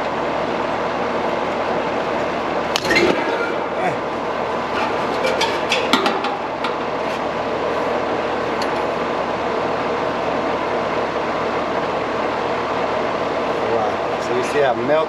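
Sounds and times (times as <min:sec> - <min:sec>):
air conditioner whirring hum: 0:00.0 - 0:15.0.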